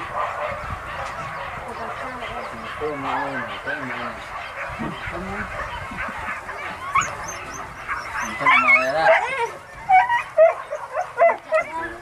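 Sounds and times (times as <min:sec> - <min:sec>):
hunting dogs yelping: 0:00.0 - 0:12.0.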